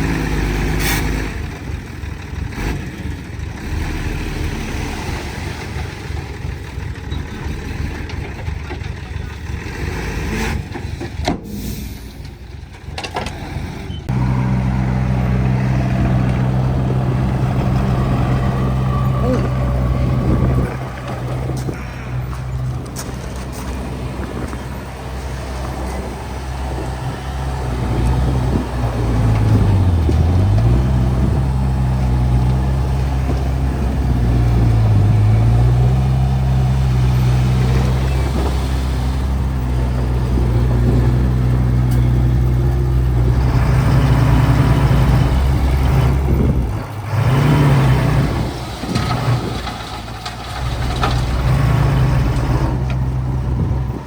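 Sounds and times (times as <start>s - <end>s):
diesel engine working under load: 0.0s - 54.0s.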